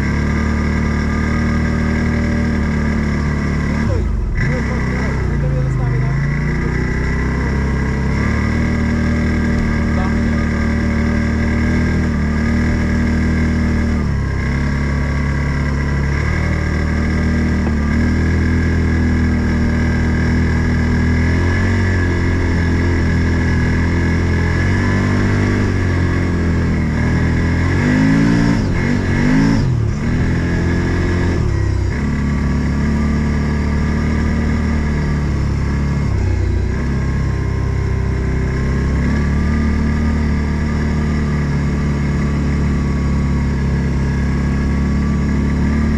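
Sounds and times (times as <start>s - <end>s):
off-road vehicle engine revving: 0.0s - 45.9s.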